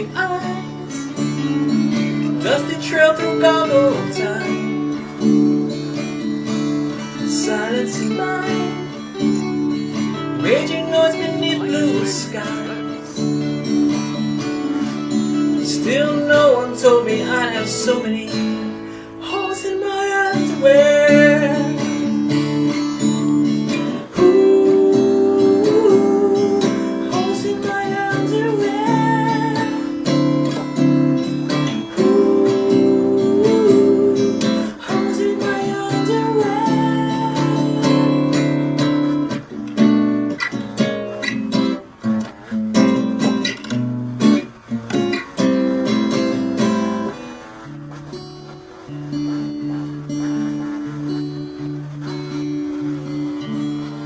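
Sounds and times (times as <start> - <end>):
strummed acoustic guitar song: 0.0 - 54.0.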